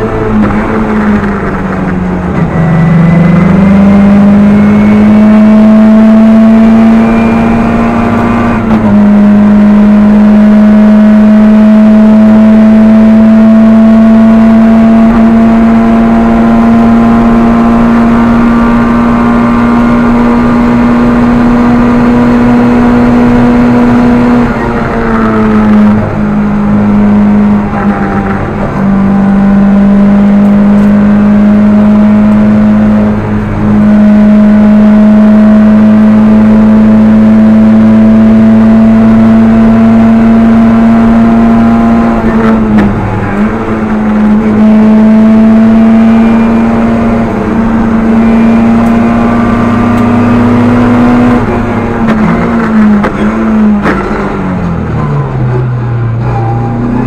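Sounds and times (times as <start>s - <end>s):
rally car engine revving high: 0.0s - 57.0s.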